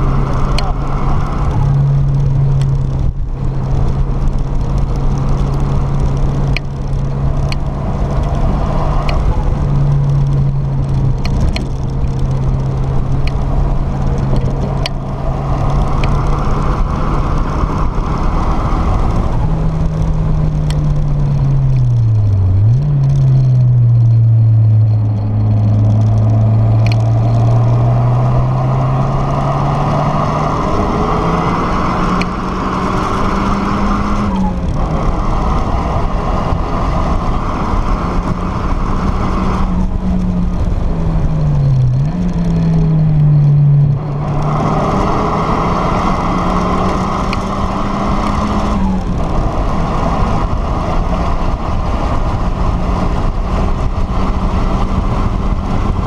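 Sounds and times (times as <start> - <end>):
car engine running hard: 0.0 - 56.0
wind noise: 0.0 - 56.0.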